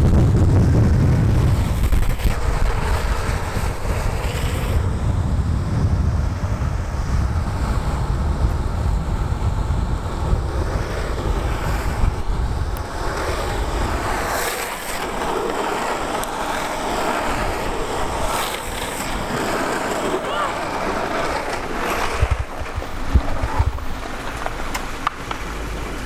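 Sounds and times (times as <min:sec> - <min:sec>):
skateboard wheels hissing on asphalt: 0:00.0 - 0:26.0
wind buffeting microphone: 0:00.0 - 0:26.0.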